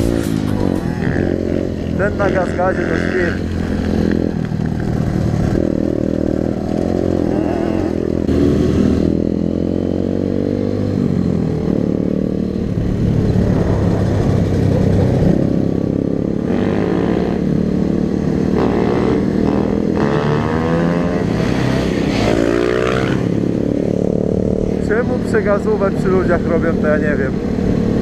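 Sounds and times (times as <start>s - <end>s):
dirt bike engine revving: 0.0s - 15.8s, 16.4s - 25.3s.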